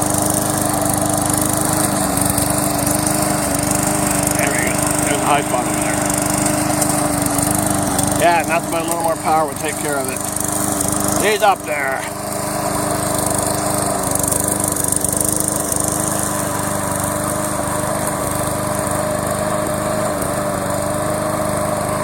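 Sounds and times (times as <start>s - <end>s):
small lawn mower engine running: 0.0s - 22.0s.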